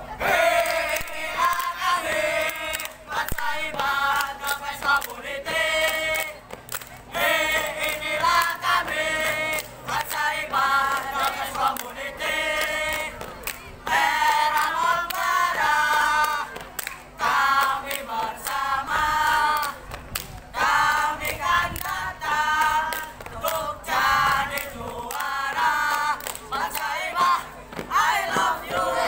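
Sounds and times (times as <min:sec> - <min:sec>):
young voices chanting a cheer: 0:00.1 - 0:06.4, 0:07.1 - 0:16.5, 0:20.6 - 0:29.0.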